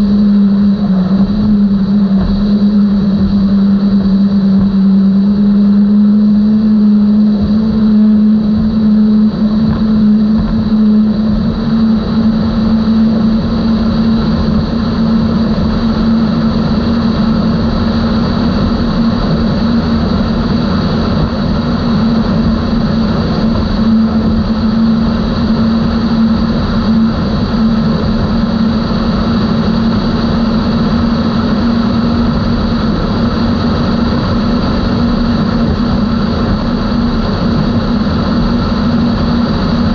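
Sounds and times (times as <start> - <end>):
outboard engines running: 0.0 - 39.9
rush of noise: 0.0 - 39.9.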